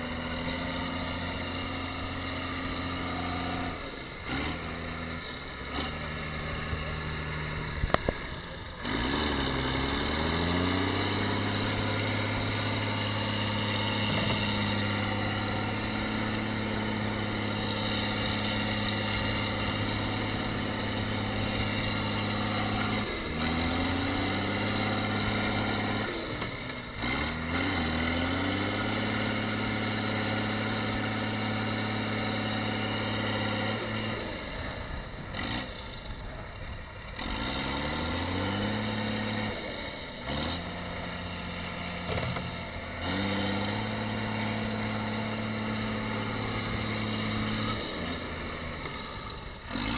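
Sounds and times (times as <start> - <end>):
tractor engine revving: 0.0 - 49.9.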